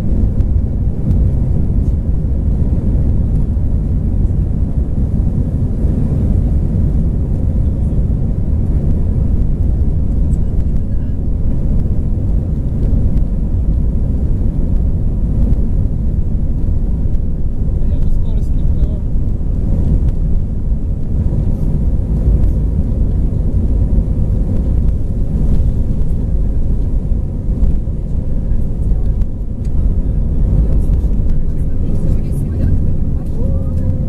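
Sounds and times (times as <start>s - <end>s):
jet engines running: 0.0s - 34.0s
wheels rolling on taxiway: 0.0s - 34.0s.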